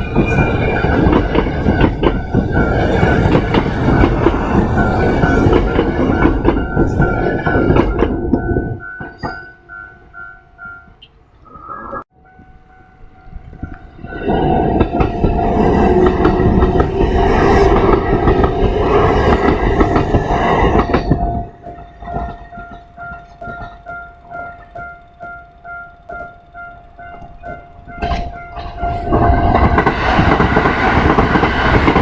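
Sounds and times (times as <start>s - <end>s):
train wheels rushing: 0.0s - 10.8s, 13.2s - 32.0s
clatter over rail joints: 0.0s - 11.0s, 13.4s - 32.0s
level-crossing bell ringing: 0.0s - 11.1s, 12.2s - 30.6s.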